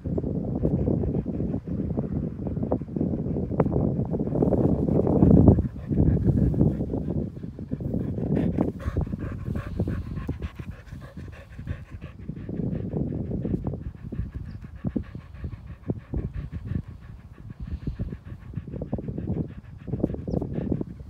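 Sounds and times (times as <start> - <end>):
dog panting: 0.4 - 21.0.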